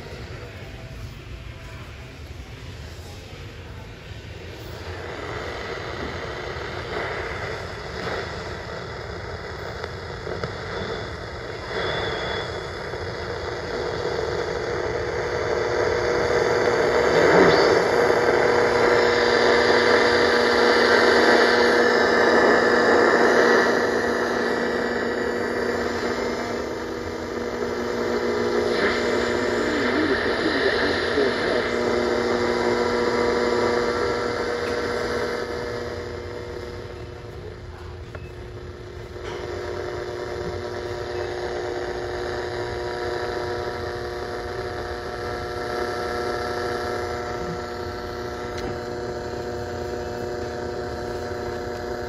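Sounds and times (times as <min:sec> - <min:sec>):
faint steady tones: 0:00.0 - 0:52.0
radio static and hiss: 0:00.0 - 0:52.0.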